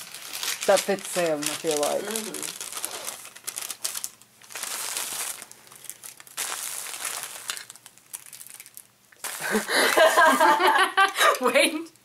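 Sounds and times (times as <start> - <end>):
paper bag crinkling: 0.0 - 10.5.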